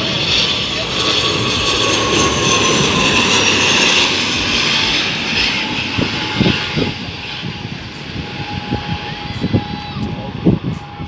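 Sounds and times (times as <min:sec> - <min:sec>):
turboprop airliner passing low: 0:00.0 - 0:11.0.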